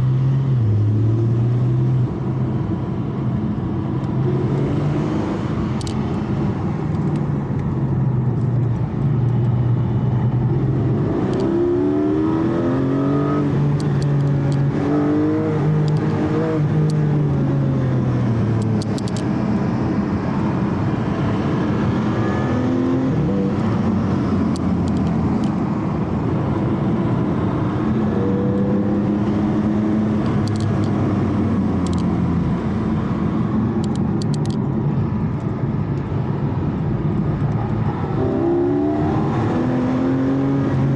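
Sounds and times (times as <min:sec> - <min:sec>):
car engine: 0:00.0 - 0:40.9
road and tyre noise: 0:00.0 - 0:40.9.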